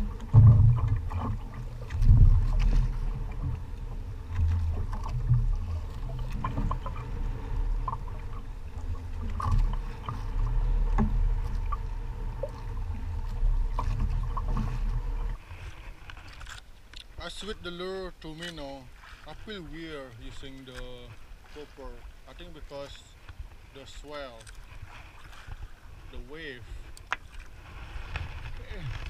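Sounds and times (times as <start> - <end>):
water sloshing against boat hull: 0.0 - 29.0.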